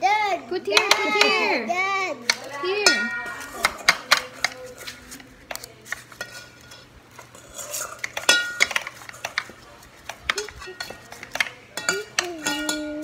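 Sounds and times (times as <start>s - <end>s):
metal spoons tapping a foil tray: 0.7s - 1.5s, 2.2s - 13.0s.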